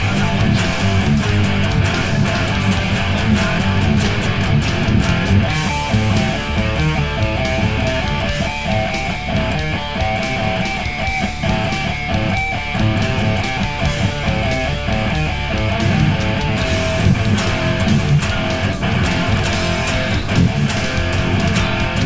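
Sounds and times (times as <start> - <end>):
drums: 0.0 - 22.0
heavy rock electric guitar riff: 0.0 - 22.0.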